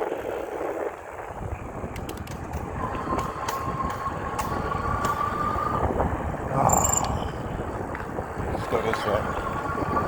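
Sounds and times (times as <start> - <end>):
tyres and wind rumble: 0.0 - 10.0.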